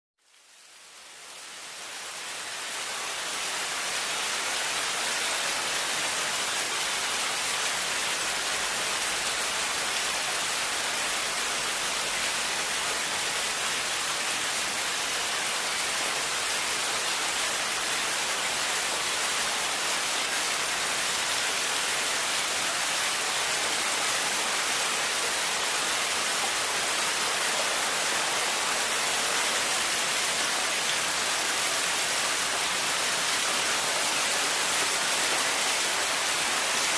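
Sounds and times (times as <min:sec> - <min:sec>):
heavy rain falling: 0:01.8 - 0:36.9.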